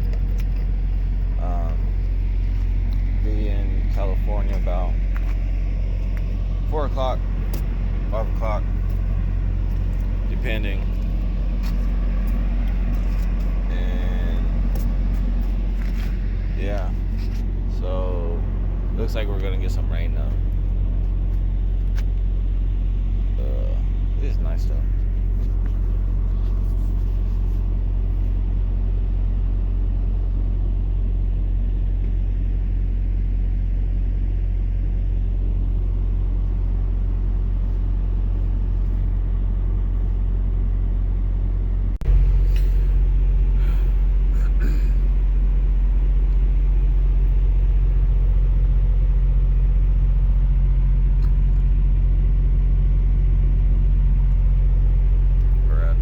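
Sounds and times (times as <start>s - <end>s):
road noise inside cab: 0.0s - 56.0s
truck diesel engine drone: 0.0s - 56.0s.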